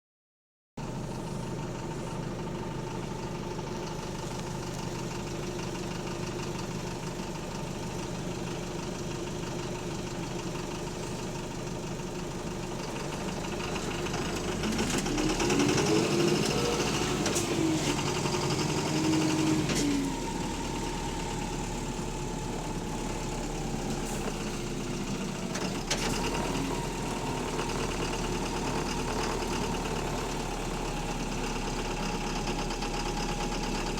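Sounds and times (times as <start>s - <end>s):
bus diesel engine with rod knock: 0.8s - 33.9s.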